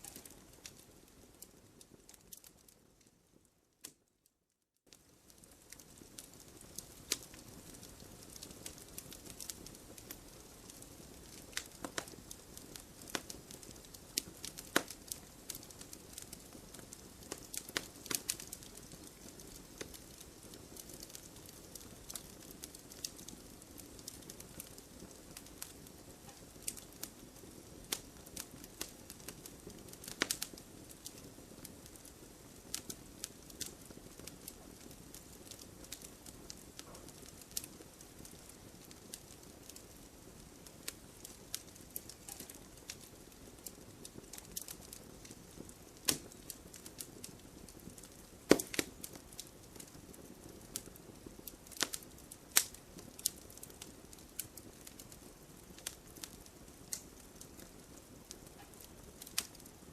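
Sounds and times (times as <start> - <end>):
wood fire crackling: 0.0 - 4.2, 4.8 - 59.9.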